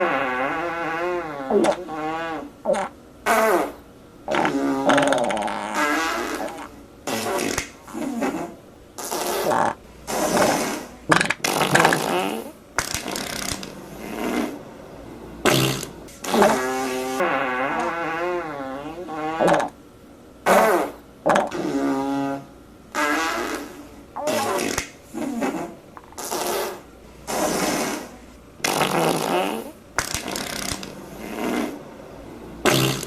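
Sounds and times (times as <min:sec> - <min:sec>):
fart sound effects: 0:00.0 - 0:14.6, 0:15.4 - 0:19.8, 0:20.5 - 0:31.8, 0:32.6 - 0:33.0.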